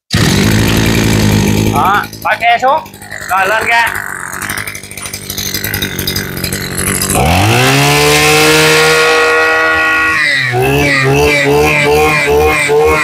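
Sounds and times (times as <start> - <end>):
brush-cutter engine running: 0.1 - 13.0.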